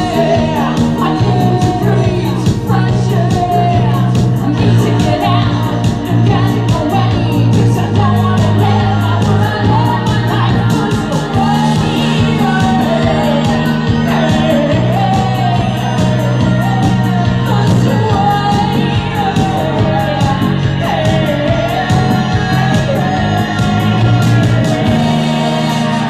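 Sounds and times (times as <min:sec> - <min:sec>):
bass guitar: 0:00.0 - 0:26.0
person singing: 0:00.0 - 0:26.0.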